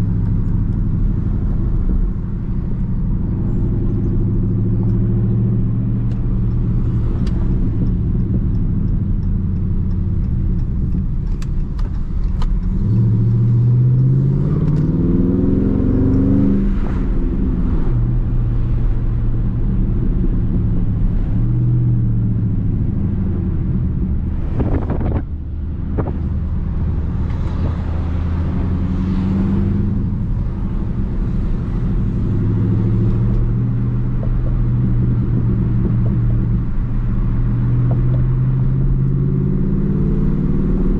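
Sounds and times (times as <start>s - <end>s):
car engine cruising: 0.0s - 40.9s.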